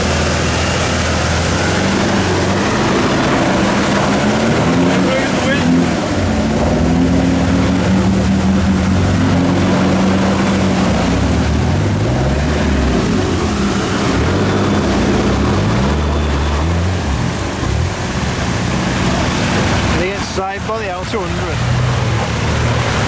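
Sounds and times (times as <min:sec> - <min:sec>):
constant rushing noise: 0:00.0 - 0:23.0
off-road engines revving: 0:00.0 - 0:23.0.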